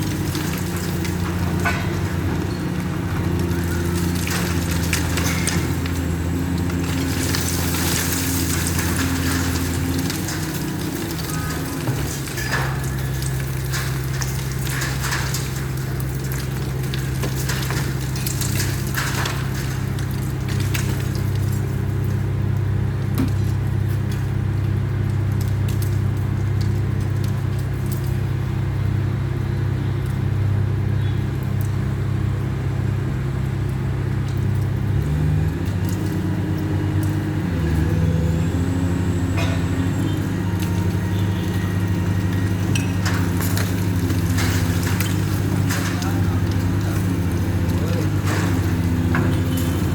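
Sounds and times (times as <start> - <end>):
cracks and crunches: 0.0 - 49.9
demolition machine engine: 0.0 - 49.9.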